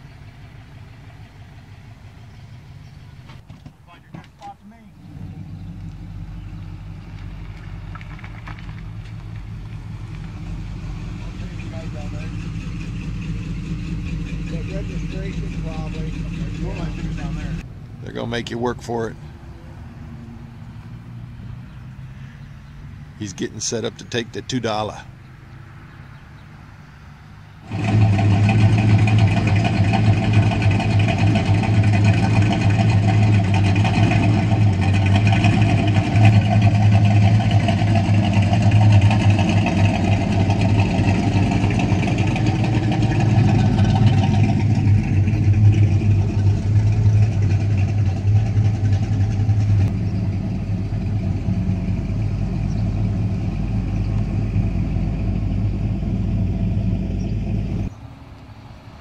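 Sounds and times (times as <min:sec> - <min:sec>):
car engine idling: 0:00.0 - 0:19.8, 0:27.6 - 0:59.0.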